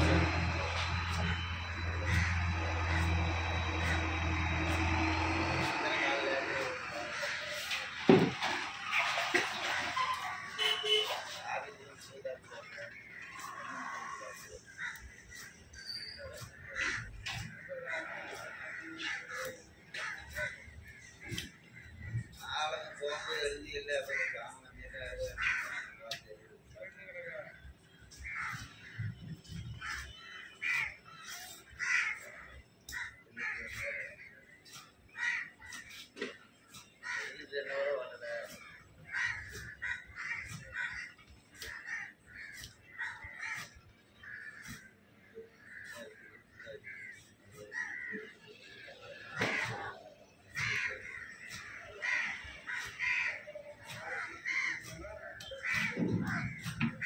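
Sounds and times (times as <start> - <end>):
crows cawing: 0.0 - 57.0.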